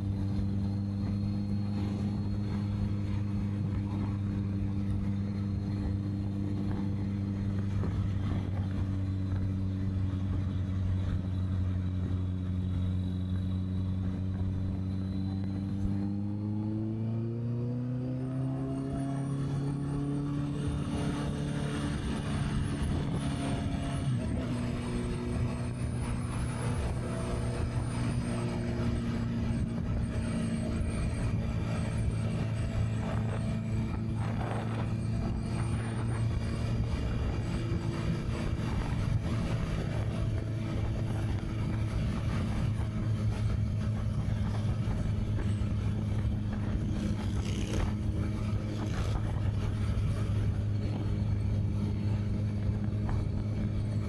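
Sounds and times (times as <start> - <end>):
wind buffeting microphone: 0.0 - 16.3, 19.2 - 54.0
motorcycle engine running: 0.0 - 16.6, 18.6 - 54.0.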